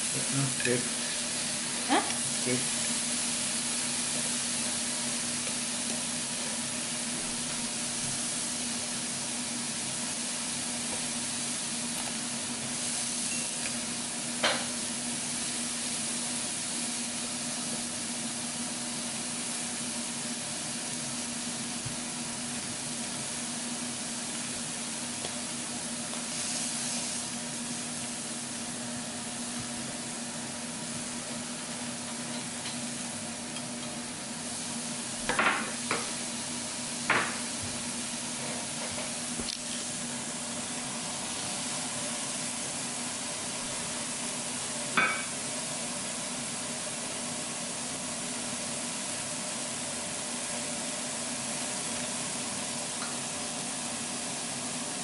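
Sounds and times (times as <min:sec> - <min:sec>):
meat sizzling on grill plate: 0:00.0 - 0:55.0.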